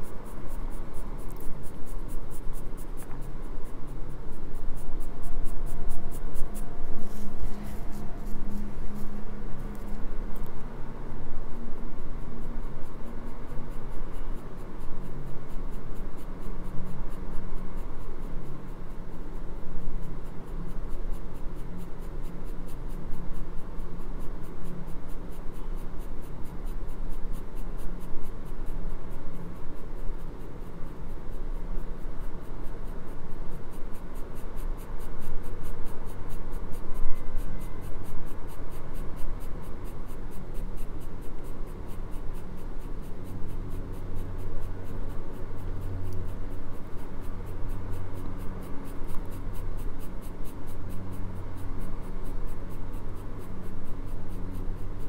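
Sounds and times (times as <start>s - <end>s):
pencil scratching on paper: 0.0s - 55.0s.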